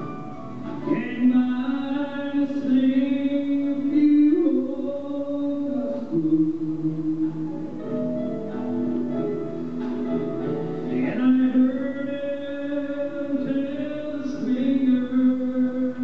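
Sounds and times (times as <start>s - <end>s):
country band with steel guitar: 0.0s - 16.0s
man singing long notes: 0.8s - 8.8s, 10.9s - 16.0s.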